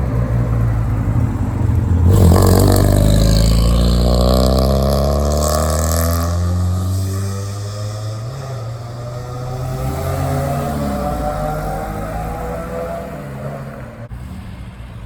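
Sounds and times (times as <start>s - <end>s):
car driving past: 0.0s - 15.0s.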